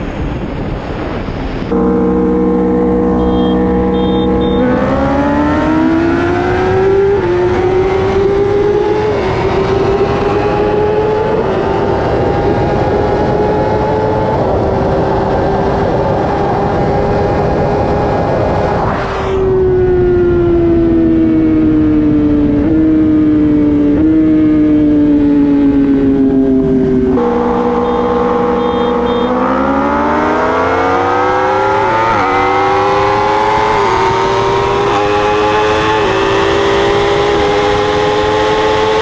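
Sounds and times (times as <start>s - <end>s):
motorcycle engine at full throttle: 0.0s - 39.0s
wind noise: 0.0s - 39.0s.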